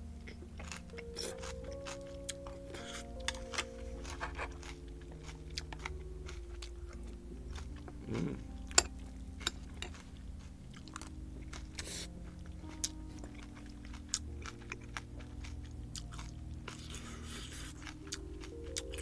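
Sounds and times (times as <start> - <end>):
person chewing and crunching food: 0.0 - 19.0.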